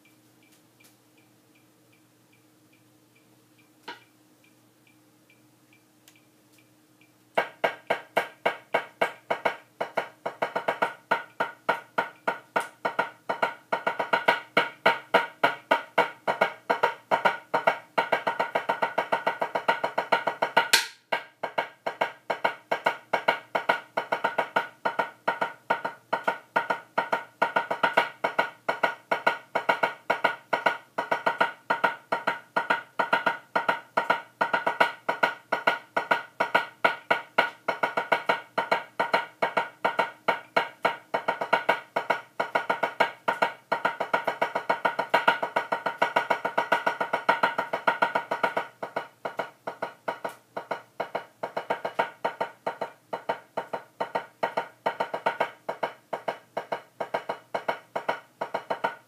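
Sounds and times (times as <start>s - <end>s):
faint metronome ticks: 0.0s - 59.0s
drumsticks striking practice pad: 7.4s - 59.0s.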